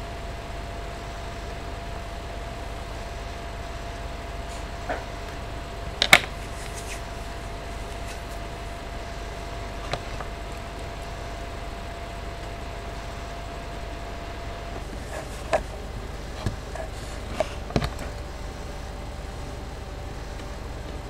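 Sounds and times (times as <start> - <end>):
faint steady whine: 0.0 - 21.0
microphone hum and hiss: 0.0 - 21.0.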